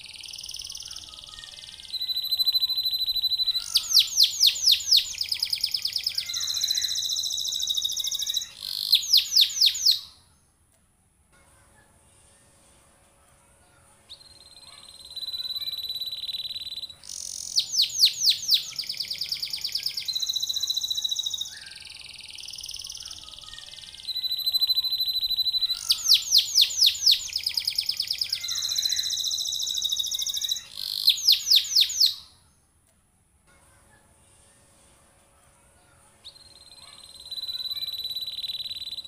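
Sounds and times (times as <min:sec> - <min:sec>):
canary singing: 0:00.0 - 0:10.3, 0:14.1 - 0:32.5, 0:36.2 - 0:39.0.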